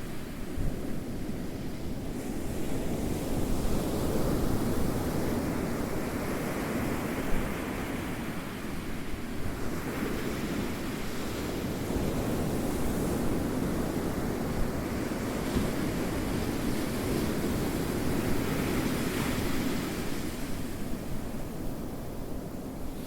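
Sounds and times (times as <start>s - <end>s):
ocean waves washing on shore: 0.0s - 23.0s.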